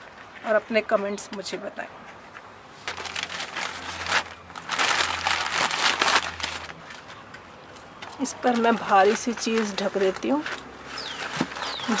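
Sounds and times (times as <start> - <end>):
newspaper rustling and crinkling: 0.0 - 12.0.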